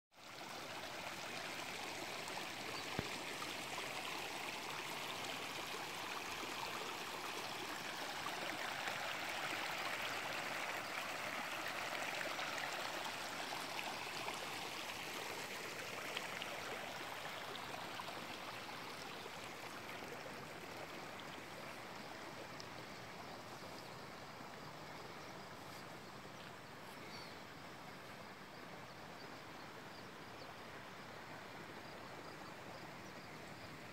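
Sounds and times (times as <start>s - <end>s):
stream trickling over stones: 0.2s - 33.9s.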